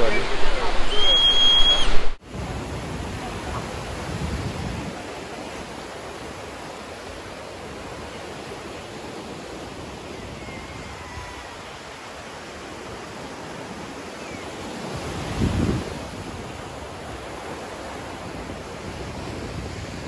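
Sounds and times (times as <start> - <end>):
waves breaking on sandy shore: 0.0 - 20.0.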